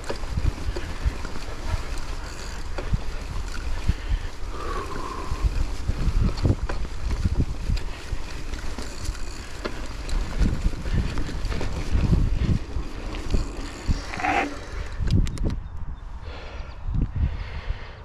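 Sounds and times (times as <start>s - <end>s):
bike tyre and trail noise: 0.0s - 18.0s
wind buffeting microphone: 0.0s - 18.0s.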